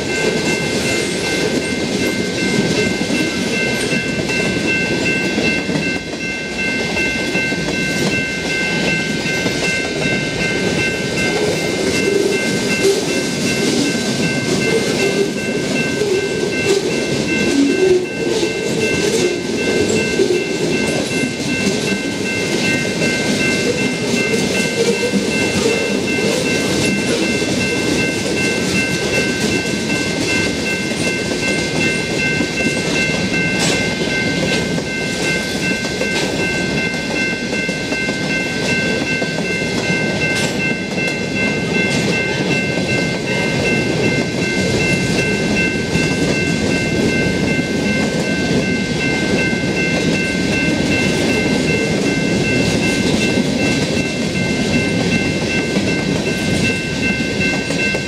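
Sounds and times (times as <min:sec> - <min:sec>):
crossing bell ringing: 0:00.0 - 0:58.0.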